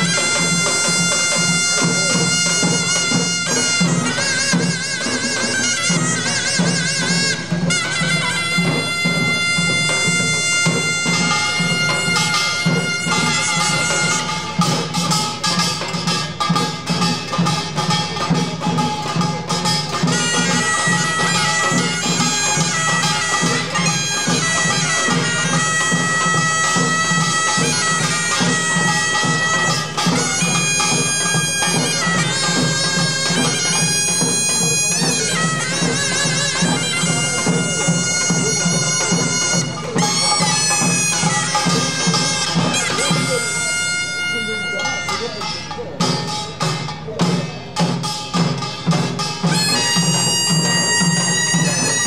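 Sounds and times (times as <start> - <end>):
hourglass drums beating: 0.0 - 52.0
nasal shawm melody: 0.0 - 52.0
small gongs clanging: 0.0 - 52.0.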